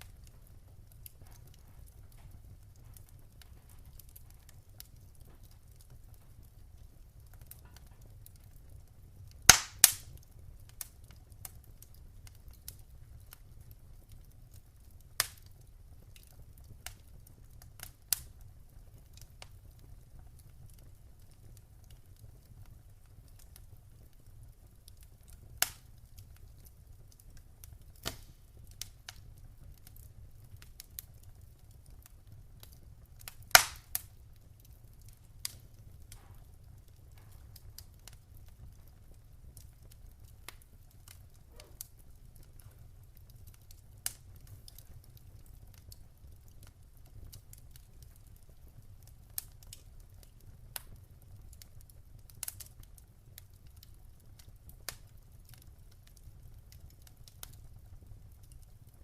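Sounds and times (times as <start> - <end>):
sharp pops of fire: 0.0 - 58.8
wood fire crackling: 0.0 - 59.0.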